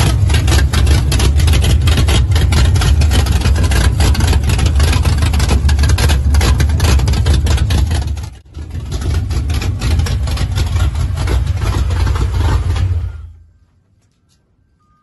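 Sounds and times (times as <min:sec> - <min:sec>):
car engine running loud: 0:00.0 - 0:13.4.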